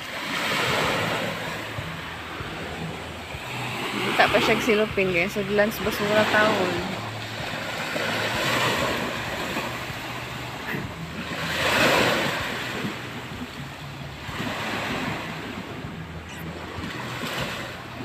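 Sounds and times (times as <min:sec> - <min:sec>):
small waves breaking on sand: 0:00.0 - 0:18.0.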